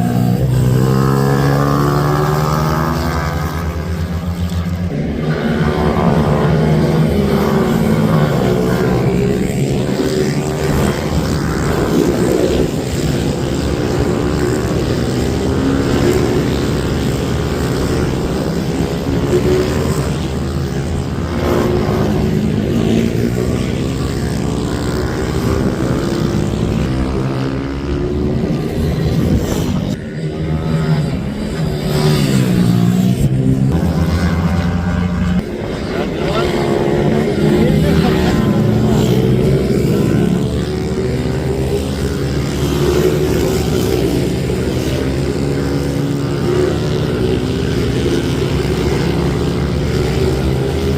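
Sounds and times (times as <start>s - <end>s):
minibike engines revving: 0.0s - 50.9s.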